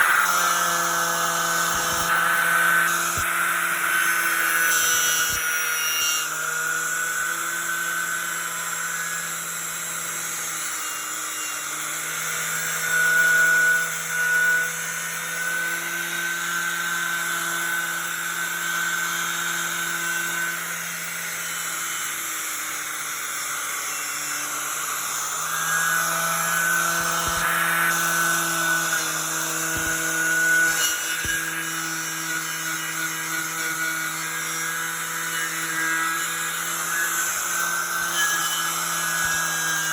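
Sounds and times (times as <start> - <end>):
angle grinder with wire wheel whining: 0.0 - 39.9.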